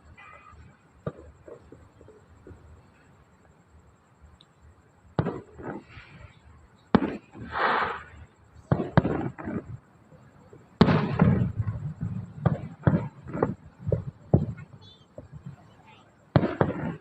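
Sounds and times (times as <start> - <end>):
fireworks bursting with sharp bangs: 0.0 - 17.0.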